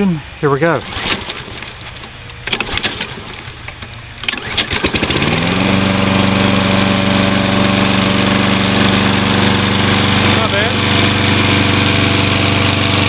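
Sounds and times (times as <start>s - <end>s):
lawn mower engine starting: 0.6s - 13.0s.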